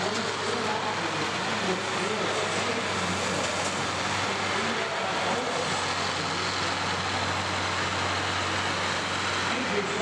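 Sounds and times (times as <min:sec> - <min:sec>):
diesel engines running hard: 0:00.0 - 0:10.0.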